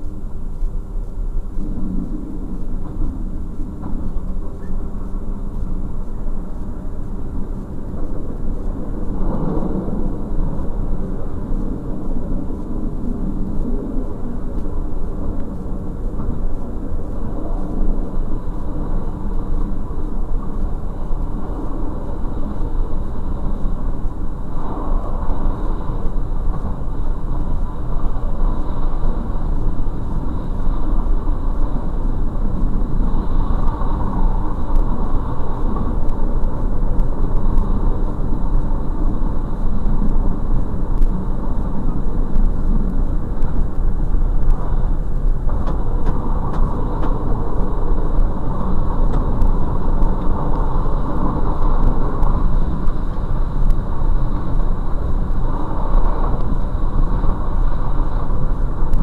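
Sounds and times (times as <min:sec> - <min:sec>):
diesel engine rumble: 0:00.0 - 0:59.0
train wheels on track: 0:00.0 - 0:59.0.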